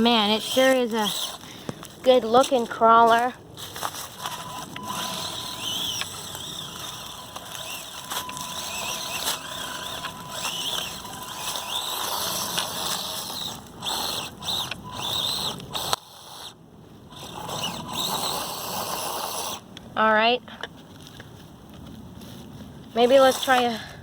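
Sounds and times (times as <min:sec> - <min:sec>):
small electric motor whining: 0:00.0 - 0:19.7.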